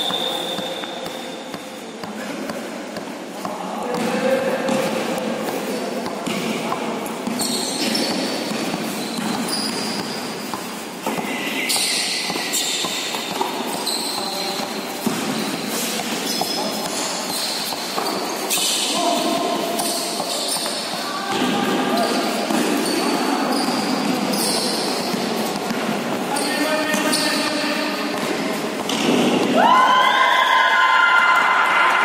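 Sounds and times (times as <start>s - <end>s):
basketball bouncing on court: 0.0s - 29.6s
sneakers squeaking: 0.0s - 29.6s.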